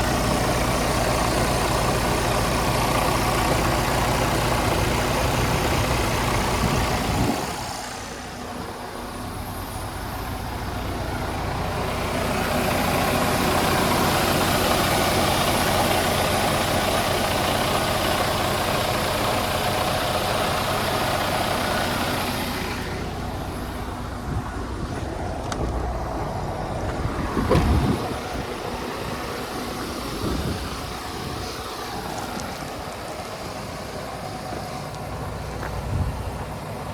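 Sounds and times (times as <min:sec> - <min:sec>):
diesel truck engine running: 0:00.0 - 0:36.9.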